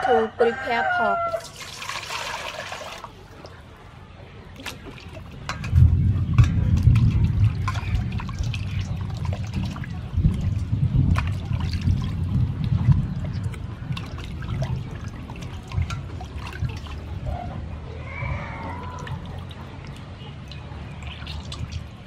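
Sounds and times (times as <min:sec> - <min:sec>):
water splashing in metal bowl: 0:01.4 - 0:03.6, 0:04.5 - 0:17.4, 0:18.6 - 0:22.0
water trickling: 0:01.4 - 0:03.8, 0:04.5 - 0:17.4, 0:18.5 - 0:22.0.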